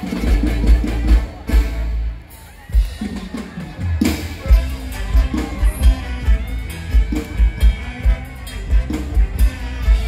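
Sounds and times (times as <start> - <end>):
live band music: 0.0 - 10.0.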